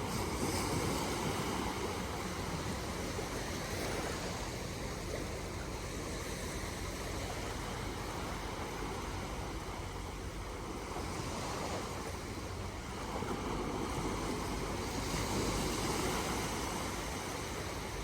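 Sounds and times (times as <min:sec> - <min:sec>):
waves washing on shore: 0:00.0 - 0:18.0
wind: 0:00.0 - 0:18.0.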